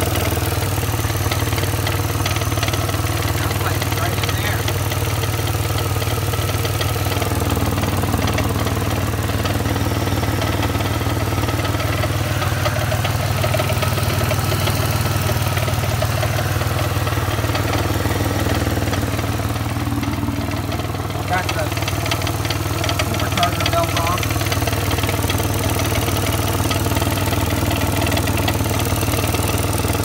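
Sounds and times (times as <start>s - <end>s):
car engine idling with rapid clacking: 0.0s - 30.0s.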